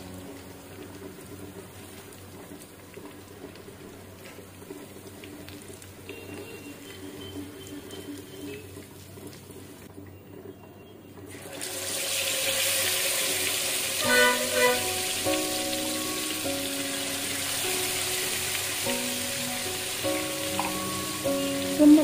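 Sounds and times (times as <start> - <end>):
chicken sizzling in hot oil: 0.0 - 9.9, 11.3 - 22.0.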